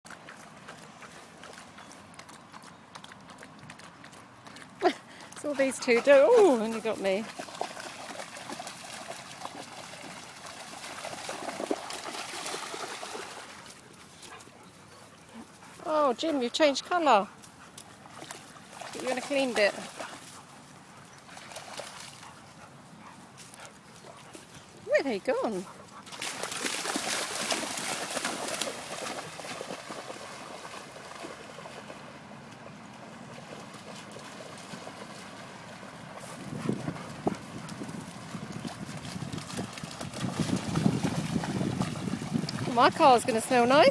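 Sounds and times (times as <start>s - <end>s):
dogs splashing through muddy water: 0.1s - 43.9s.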